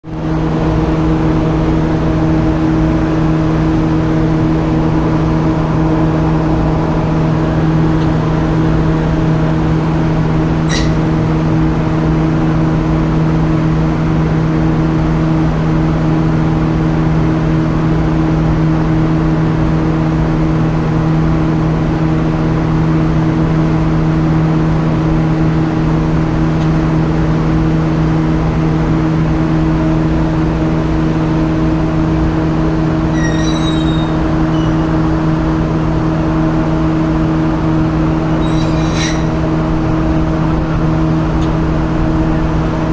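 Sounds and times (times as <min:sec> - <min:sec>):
boat engines droning: 0:00.1 - 0:42.9.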